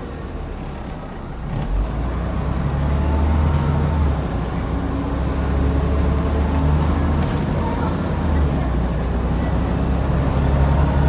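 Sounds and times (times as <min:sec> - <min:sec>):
bus diesel engine accelerating: 0:00.0 - 0:11.0.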